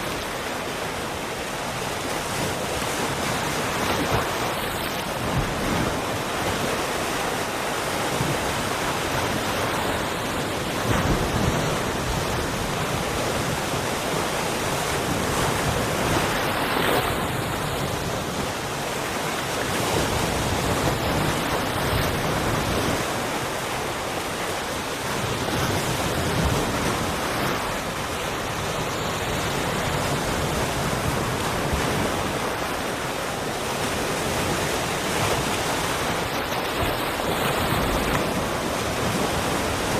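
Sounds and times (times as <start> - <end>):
sea waves breaking ashore: 0.0 - 39.9.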